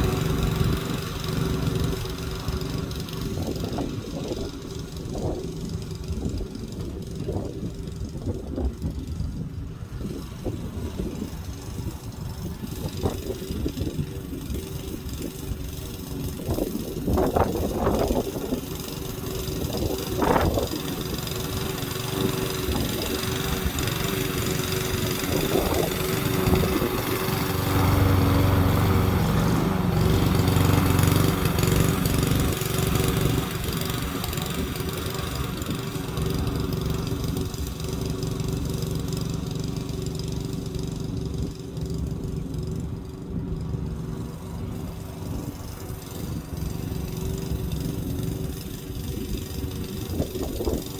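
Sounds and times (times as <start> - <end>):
lawn mower engine running: 0.0 - 50.9.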